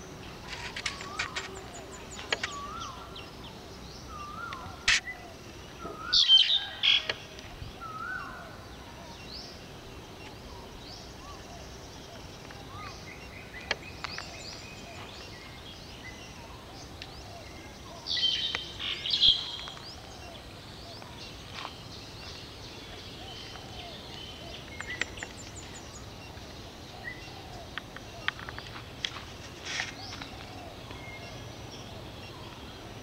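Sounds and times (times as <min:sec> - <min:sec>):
birds chirping: 0:00.0 - 0:33.0
steady outdoor background: 0:00.0 - 0:33.0.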